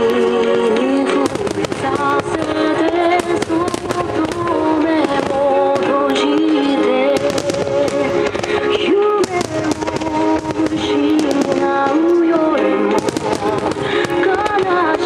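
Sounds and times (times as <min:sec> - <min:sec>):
fireworks bursting and crackling: 0:00.0 - 0:15.0
music with sung melody: 0:00.0 - 0:15.0.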